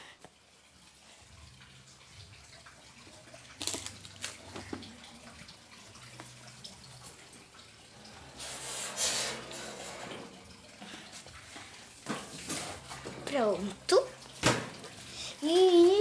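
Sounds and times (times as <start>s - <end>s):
water running into sink: 0.7s - 16.0s.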